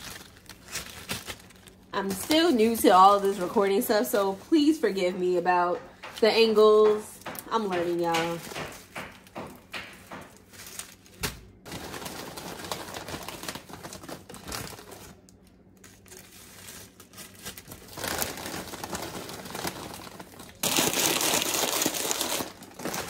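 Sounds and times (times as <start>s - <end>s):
plastic bags and chip bag crinkling: 0.0s - 5.8s, 7.2s - 23.0s.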